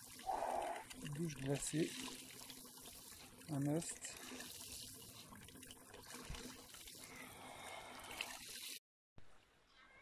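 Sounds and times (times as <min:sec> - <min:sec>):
shower water splashing: 0:00.0 - 0:08.8.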